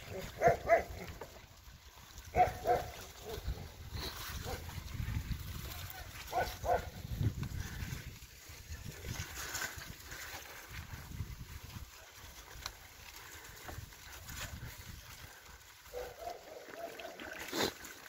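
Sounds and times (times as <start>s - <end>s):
bicycle rolling over rutted mud: 0.0s - 18.0s.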